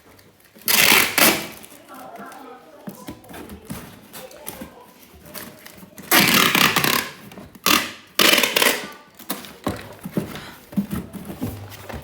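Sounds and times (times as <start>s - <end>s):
handling noise scraping and rustling: 0.0s - 7.7s, 8.8s - 12.0s.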